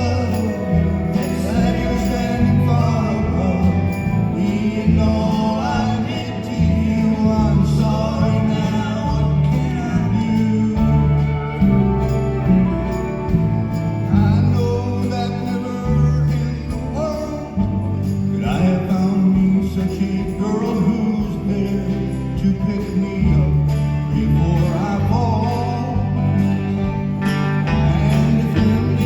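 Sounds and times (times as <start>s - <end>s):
jingling percussion: 0.0s - 29.0s
live band playing: 0.0s - 29.0s.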